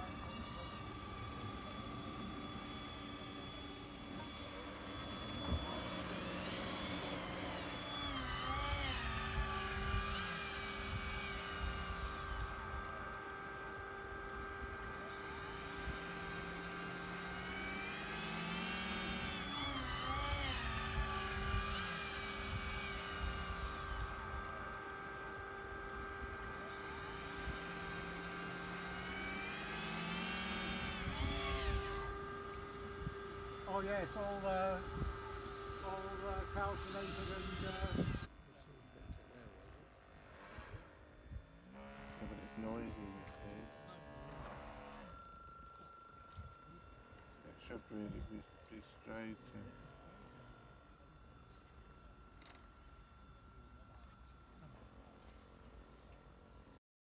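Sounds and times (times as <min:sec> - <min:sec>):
model boat motor whining: 0:00.0 - 0:56.8.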